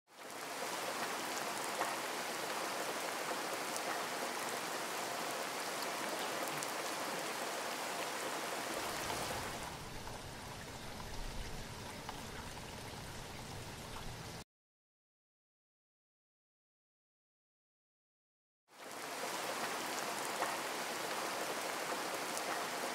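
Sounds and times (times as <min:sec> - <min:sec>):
steady rain: 0:00.1 - 0:14.4, 0:18.7 - 0:22.9.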